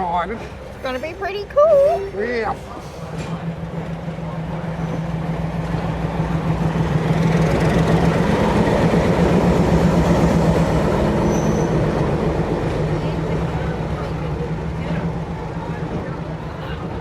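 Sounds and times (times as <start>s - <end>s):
train running close by: 0.0s - 17.0s.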